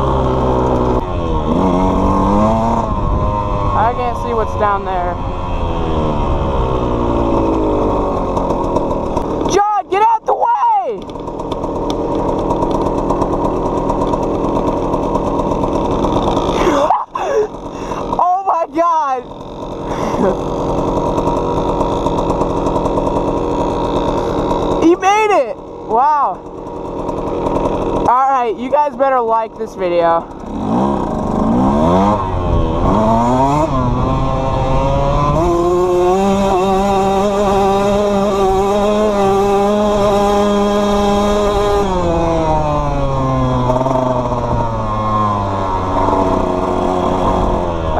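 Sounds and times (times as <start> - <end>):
two-stroke dirt bike engine: 0.0 - 47.9.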